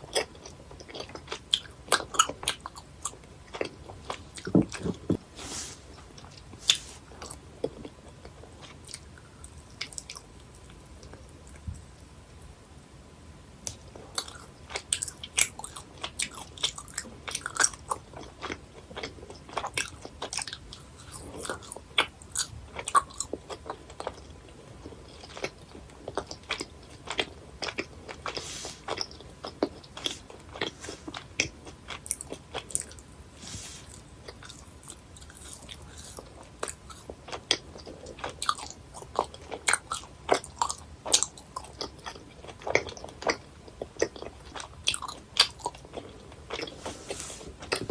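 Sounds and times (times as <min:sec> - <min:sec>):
chewing gummy sweets: 0:00.0 - 0:05.2, 0:13.7 - 0:33.2, 0:33.8 - 0:47.9.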